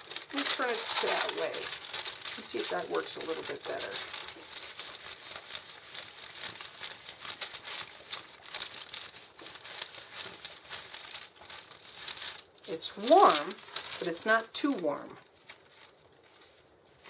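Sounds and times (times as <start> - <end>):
parchment paper crinkling: 0.0 - 17.0.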